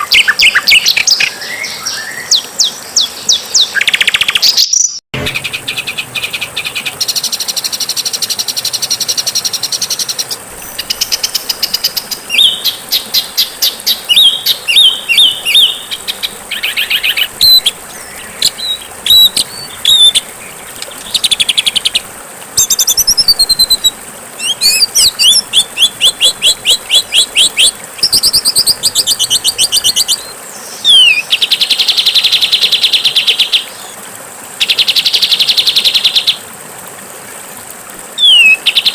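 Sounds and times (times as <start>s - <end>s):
songbirds singing trills: 0.0s - 34.0s, 38.2s - 38.9s.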